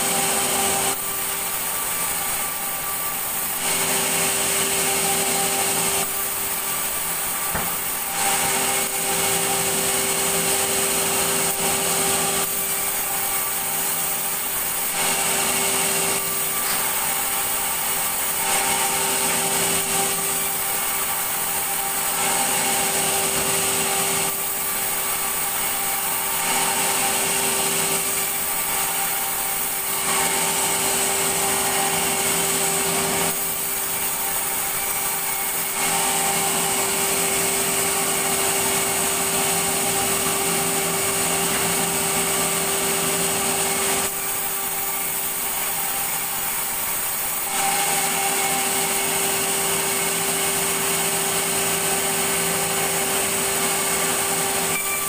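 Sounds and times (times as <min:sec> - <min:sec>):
circular saw cutting planks: 0:00.0 - 0:55.0.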